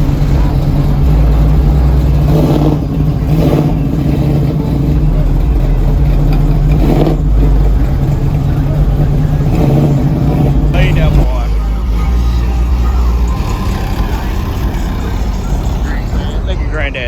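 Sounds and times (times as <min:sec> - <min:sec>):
car engine rumbling: 0:00.0 - 0:17.0
faint voices: 0:00.0 - 0:17.0.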